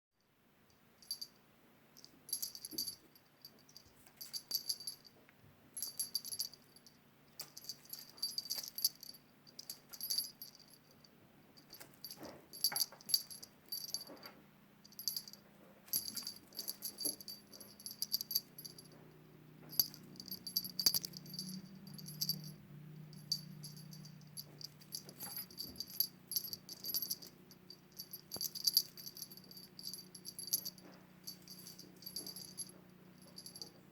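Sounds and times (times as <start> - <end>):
faint low hum: 0.2 - 33.9
small jingle bell shaken: 1.0 - 1.4, 2.0 - 5.1, 5.8 - 14.3, 14.9 - 19.0, 19.7 - 33.8.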